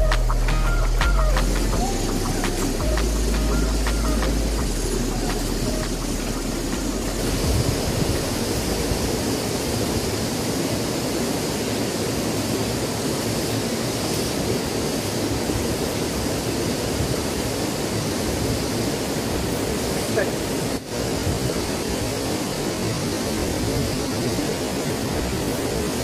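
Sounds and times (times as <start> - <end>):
water cascading into pool: 0.0 - 26.0.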